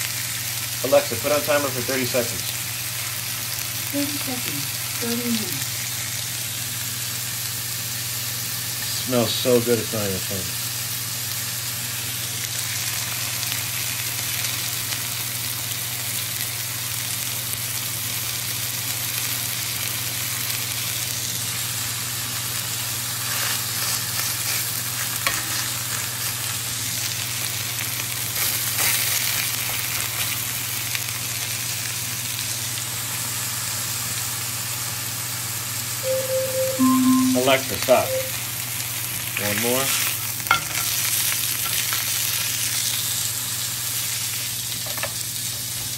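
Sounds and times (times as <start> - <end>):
meat sizzling in a skillet: 0.0 - 36.0, 38.5 - 45.9.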